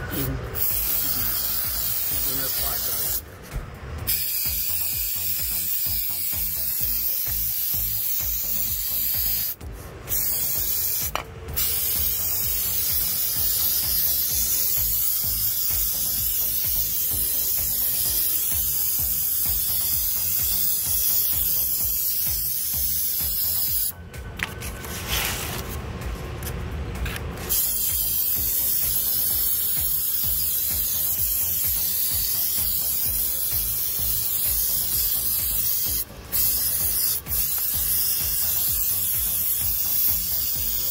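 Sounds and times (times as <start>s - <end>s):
aerosol can spraying: 0.1s - 3.3s, 4.0s - 24.0s, 27.4s - 40.9s.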